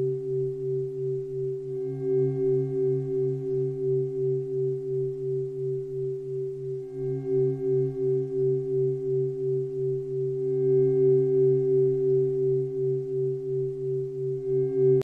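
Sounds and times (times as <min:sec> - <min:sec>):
faint higher tones: 0:00.0 - 0:15.0
low pulsing meditation drone: 0:00.0 - 0:15.0.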